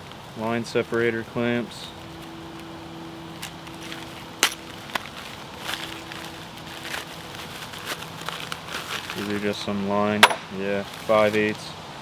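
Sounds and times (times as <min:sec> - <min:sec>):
steady low hum: 0:00.0 - 0:11.1
faint rustling and clinking: 0:01.8 - 0:11.6.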